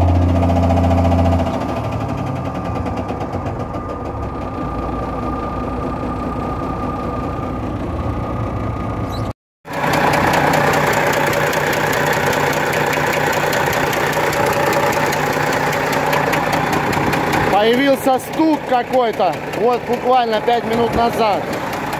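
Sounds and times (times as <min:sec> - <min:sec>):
diesel truck engine idling with knock: 0:00.0 - 0:21.9.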